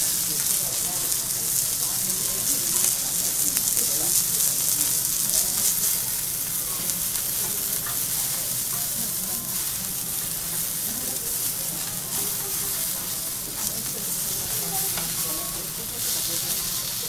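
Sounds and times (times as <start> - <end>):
seafood sizzling on a griddle: 0.0 - 17.0.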